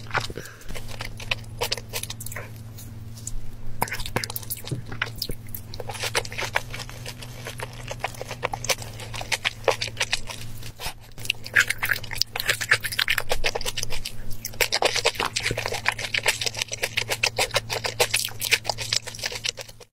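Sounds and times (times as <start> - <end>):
person chewing: 0.0 - 19.9
steady low hum: 0.0 - 19.9
wet mouth clicks and smacks: 3.2 - 19.9.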